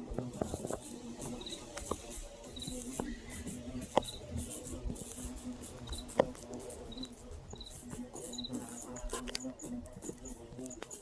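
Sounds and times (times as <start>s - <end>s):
faint high ticking: 0.0s - 11.0s.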